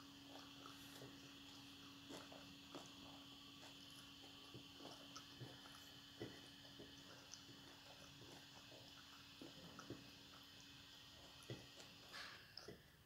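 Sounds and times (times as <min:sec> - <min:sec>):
faint hum: 0:00.0 - 0:13.0
person chewing food: 0:00.0 - 0:13.0.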